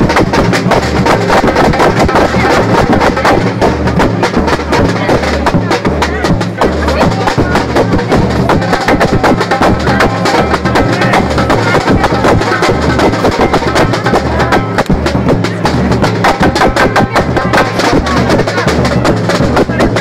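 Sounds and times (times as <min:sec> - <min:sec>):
bass drums pulsing: 0:00.0 - 0:20.0
samba drums playing: 0:00.0 - 0:20.0.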